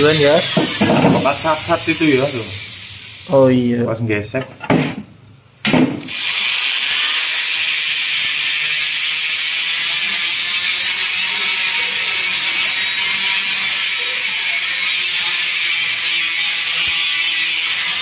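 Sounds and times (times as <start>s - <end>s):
die grinder sanding metal: 0.0s - 3.2s, 6.1s - 18.0s.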